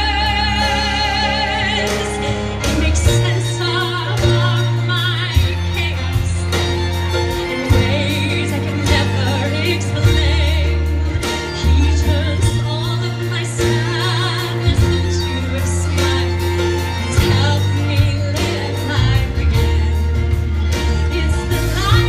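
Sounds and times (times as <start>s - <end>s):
orchestra playing low bass notes: 0.0s - 22.0s
woman singing a ballad: 0.0s - 22.0s.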